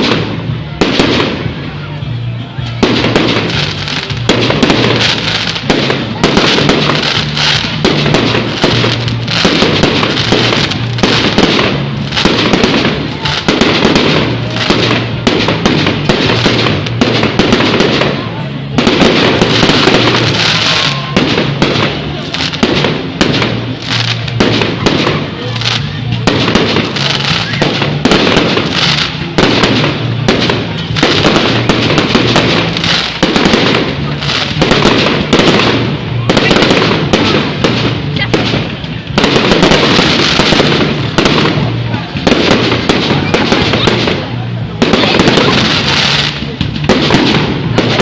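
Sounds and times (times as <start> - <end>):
fireworks bangs and crackles: 0.0 - 48.0
music playing: 0.0 - 48.0.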